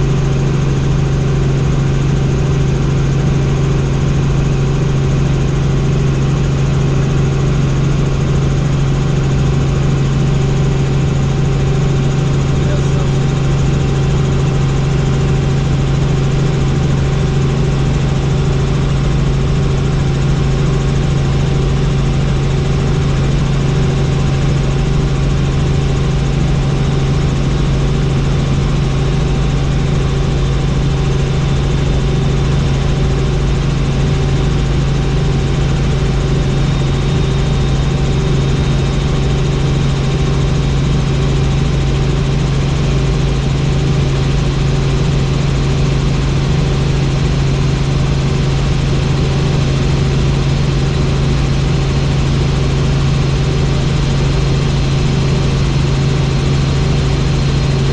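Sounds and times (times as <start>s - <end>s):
helicopter engine and rotors: 0.0s - 57.9s.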